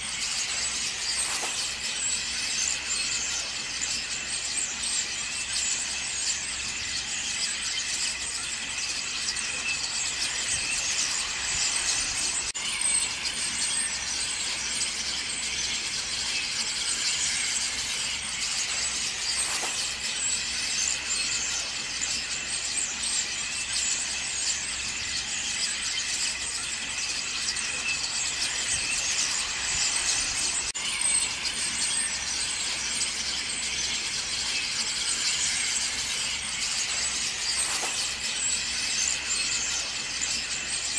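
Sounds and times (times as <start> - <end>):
flock of starlings chattering: 0.0 - 40.9.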